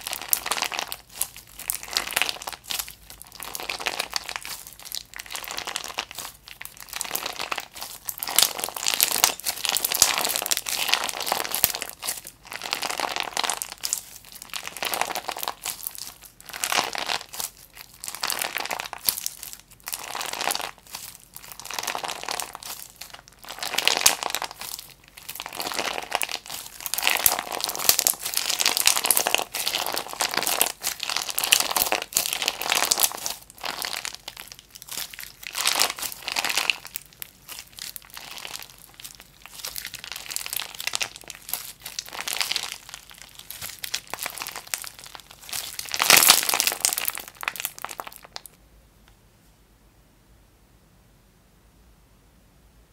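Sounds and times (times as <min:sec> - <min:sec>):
slime crackling and popping: 0:00.0 - 0:48.6.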